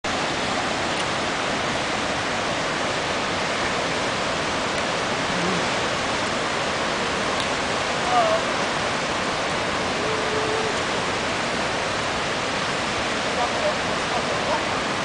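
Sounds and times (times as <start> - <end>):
whitewater rushing over rocks: 0.1 - 15.0.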